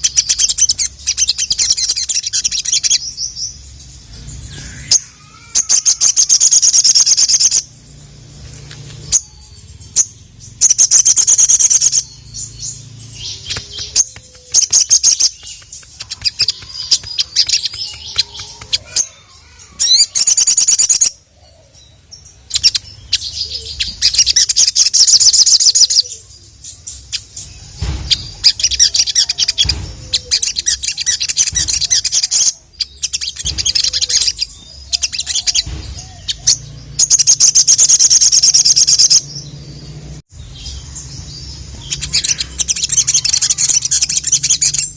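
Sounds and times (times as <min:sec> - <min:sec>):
sunbird trilling song: 0:00.0 - 0:44.9.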